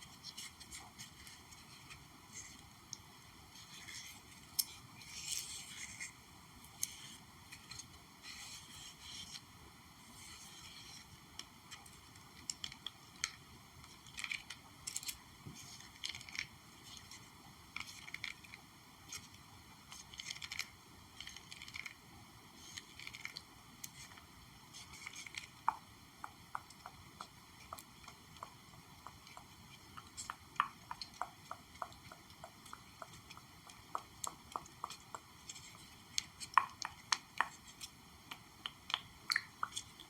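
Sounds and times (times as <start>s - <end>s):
soft crackling and scratching: 0.0s - 40.0s.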